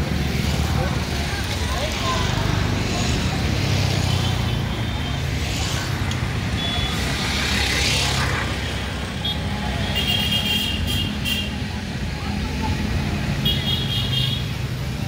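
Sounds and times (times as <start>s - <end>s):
road traffic engine rumble: 0.0s - 15.0s
vehicles passing: 0.0s - 15.0s.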